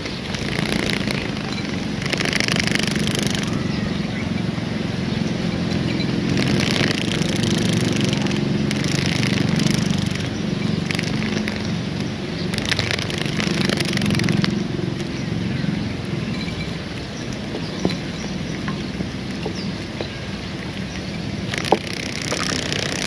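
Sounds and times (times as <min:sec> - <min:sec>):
insect wings buzzing: 0:00.0 - 0:23.0
rasping wing flutter: 0:00.0 - 0:23.0.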